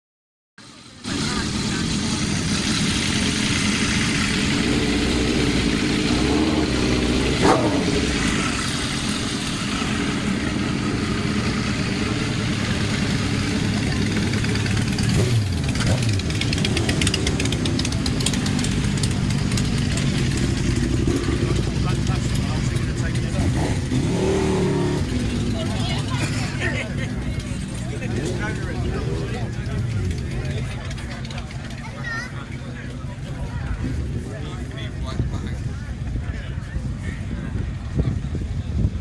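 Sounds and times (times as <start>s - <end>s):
motorcycle engines idling and revving: 0.6s - 39.0s.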